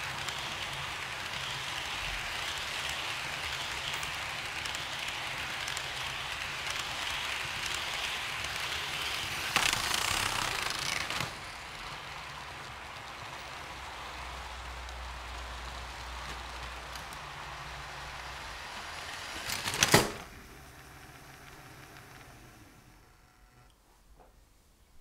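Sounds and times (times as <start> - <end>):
model train whirring: 0.0 - 23.7.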